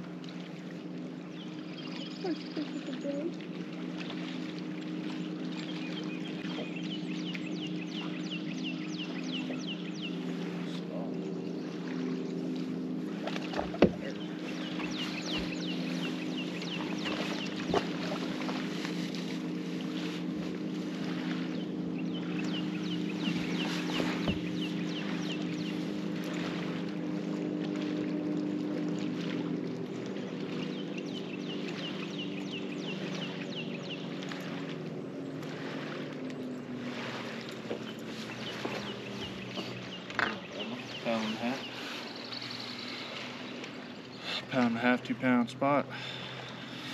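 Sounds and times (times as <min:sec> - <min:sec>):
electric trolling motor humming: 0:00.0 - 0:46.9
wind and water: 0:00.0 - 0:46.9.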